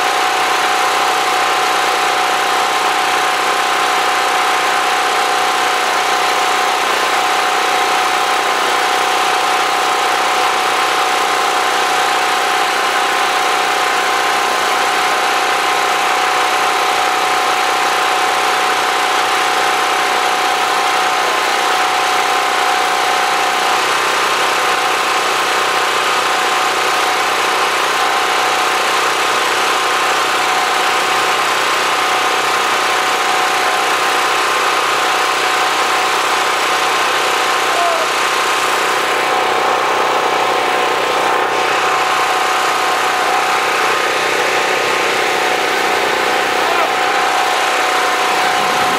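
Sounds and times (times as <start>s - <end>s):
generator engine running: 0.0s - 48.9s.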